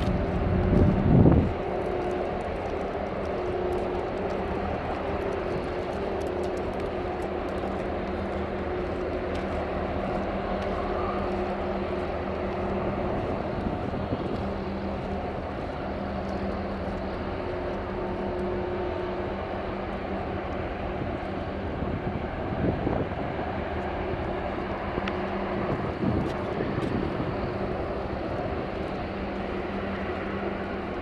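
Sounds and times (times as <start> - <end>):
diesel engine drone: 0.0 - 31.0
water wash: 0.0 - 31.0
wind: 0.0 - 31.0.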